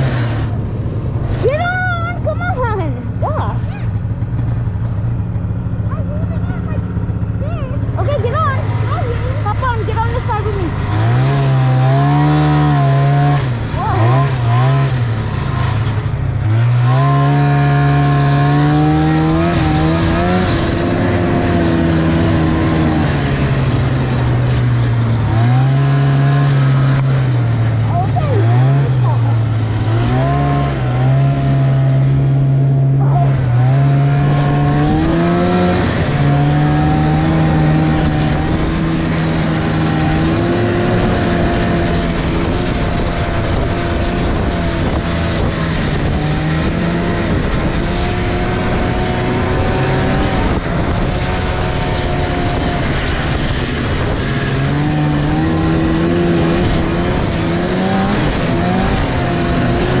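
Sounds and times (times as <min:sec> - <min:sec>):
snowmobile engine running: 0:00.0 - 1:00.0.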